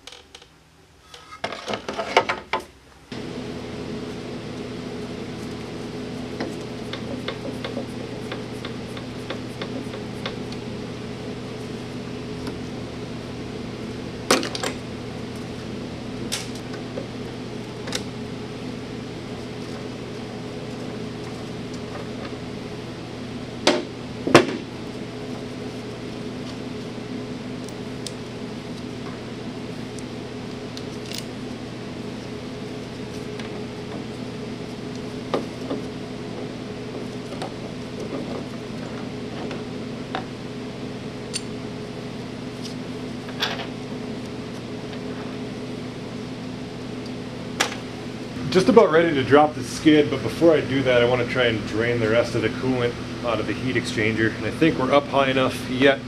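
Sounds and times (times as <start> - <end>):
steady hum: 3.0 - 56.0.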